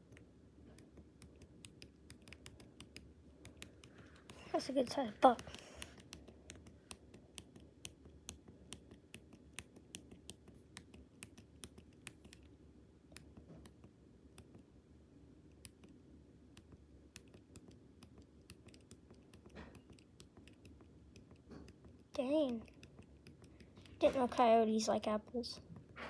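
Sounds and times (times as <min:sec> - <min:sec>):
laptop clicking: 0:00.0 - 0:12.5, 0:15.5 - 0:24.5.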